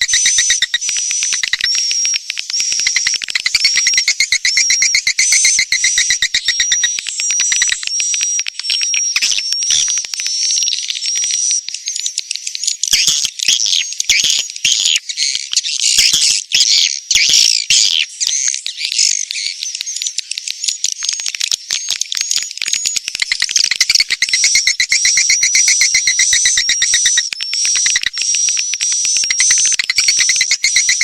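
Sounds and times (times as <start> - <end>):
swiftlets chattering and chirping: 0.0 - 31.0.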